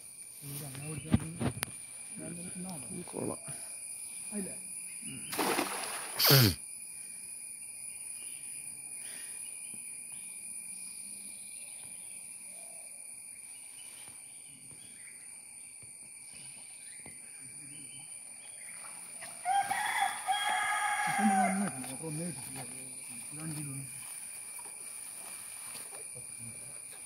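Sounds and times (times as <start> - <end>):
insect chorus trilling: 0.0 - 27.0.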